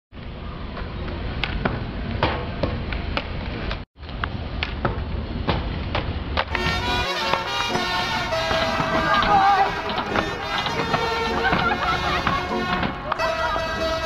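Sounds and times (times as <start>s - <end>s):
skateboards rolling on concrete: 0.2s - 14.0s
skateboards clacking on ground: 0.7s - 13.7s.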